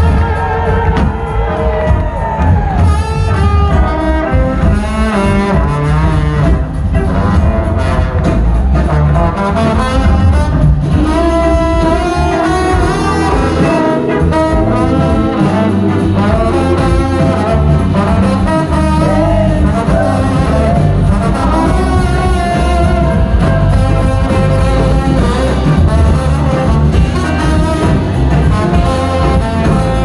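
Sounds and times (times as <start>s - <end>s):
horn section: 0.0s - 30.0s
live soul rock band: 0.0s - 30.0s.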